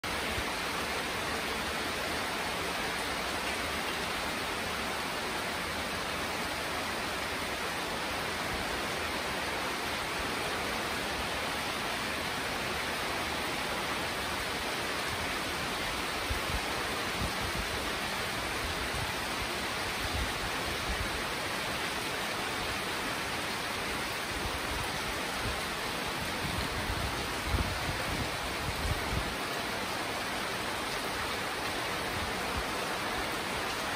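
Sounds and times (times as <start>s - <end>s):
heavy rain pouring on foliage: 0.0s - 33.9s.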